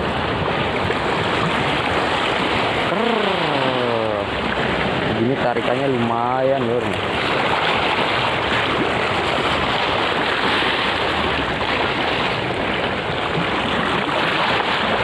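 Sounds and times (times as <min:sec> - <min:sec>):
choppy sea water: 0:00.0 - 0:15.0.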